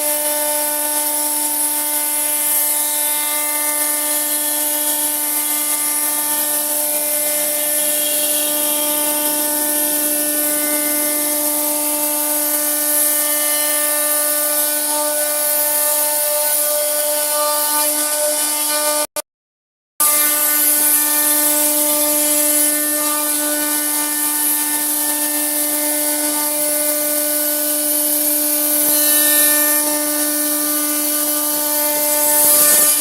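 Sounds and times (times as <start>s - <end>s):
power tool whining cutting wood: 0.0s - 19.2s, 20.0s - 33.0s.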